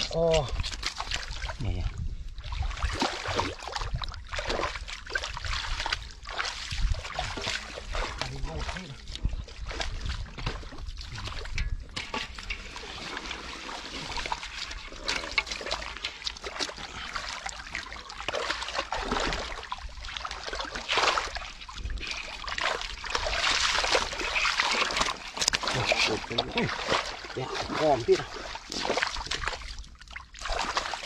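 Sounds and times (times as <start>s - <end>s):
hands splashing in muddy water: 0.0s - 1.6s, 2.4s - 31.0s.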